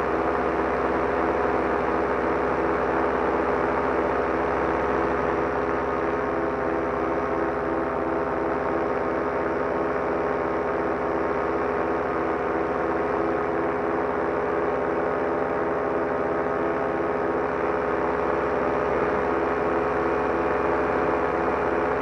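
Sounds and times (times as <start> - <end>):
paramotor engine and propeller droning: 0.0 - 22.0.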